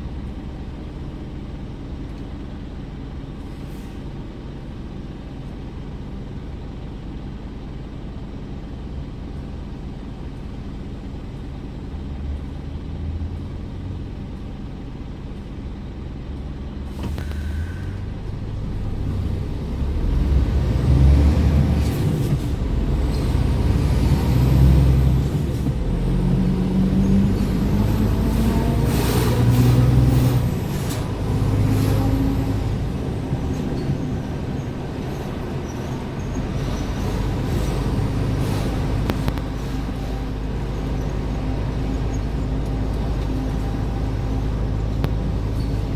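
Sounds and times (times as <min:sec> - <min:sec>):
truck diesel engine running: 0:00.0 - 0:45.9.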